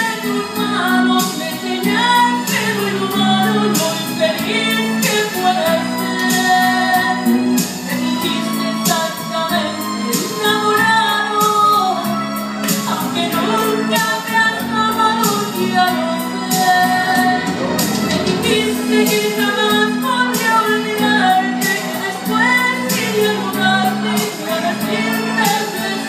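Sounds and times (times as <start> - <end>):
instrumental accompaniment: 0.0 - 26.0
person singing: 0.0 - 26.0.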